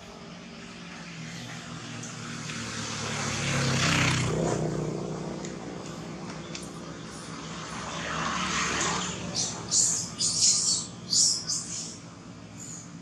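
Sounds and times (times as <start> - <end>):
passing engine hum: 0.0 - 13.0.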